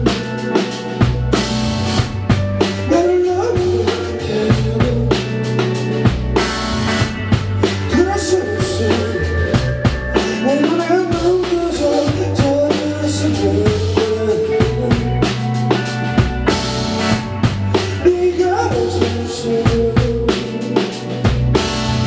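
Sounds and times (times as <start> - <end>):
bass line: 0.0 - 22.0
drum kit beat: 0.0 - 22.0
sliding melodic lead: 0.0 - 22.0.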